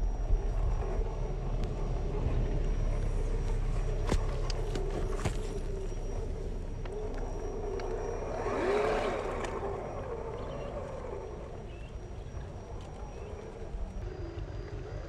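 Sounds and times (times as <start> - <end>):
rc car electric motor whining: 0.0 - 15.0.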